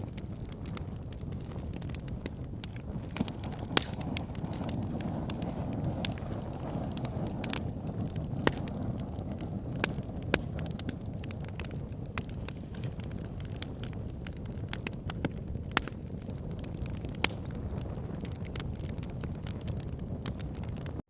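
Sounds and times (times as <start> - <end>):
fire flame rumble: 0.0 - 21.0
logs crackling and popping: 0.0 - 21.0.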